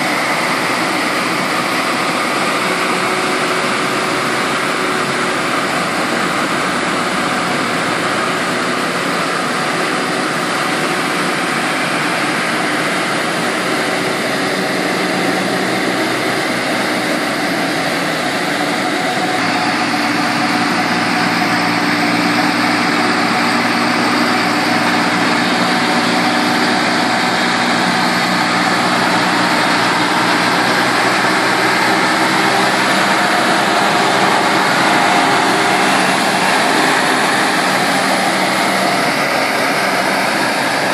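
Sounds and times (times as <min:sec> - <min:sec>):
sprayer blower hissing: 0:00.0 - 0:40.9
tractor engine running: 0:00.0 - 0:40.9.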